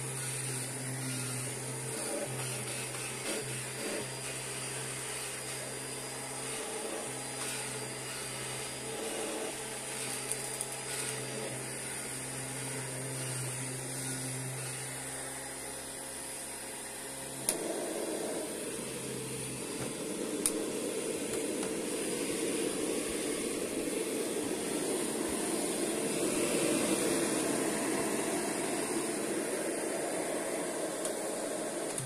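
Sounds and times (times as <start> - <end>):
vacuum cleaner motor hum: 0.0 - 32.0.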